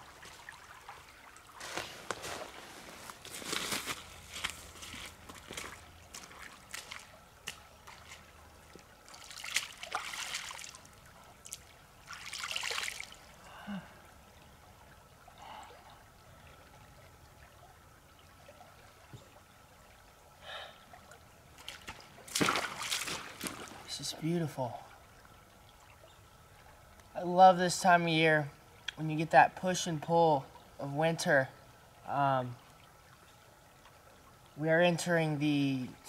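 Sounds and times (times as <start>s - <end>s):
stream trickling: 0.0s - 36.0s.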